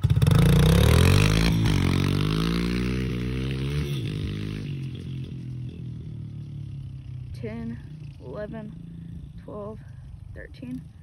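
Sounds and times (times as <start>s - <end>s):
pit bike engines revving: 0.0s - 11.0s.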